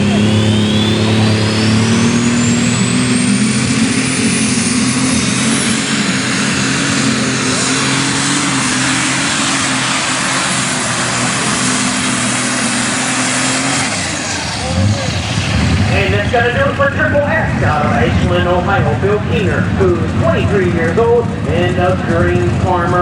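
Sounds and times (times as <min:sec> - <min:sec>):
tractor engine running hard: 0:00.0 - 0:23.0
turbocharger whine: 0:00.0 - 0:23.0.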